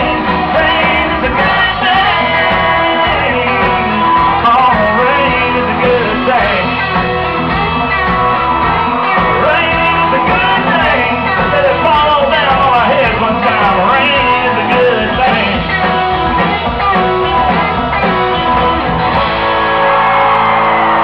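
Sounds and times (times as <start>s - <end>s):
man singing: 0.0s - 19.1s
drums: 0.0s - 21.0s
electric guitars: 0.0s - 21.0s.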